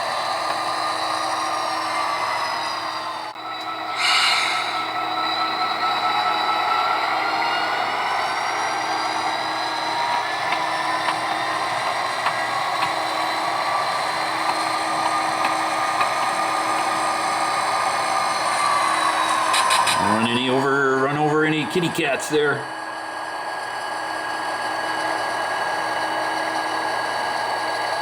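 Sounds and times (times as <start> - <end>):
model train motor whine: 0.0 - 28.0.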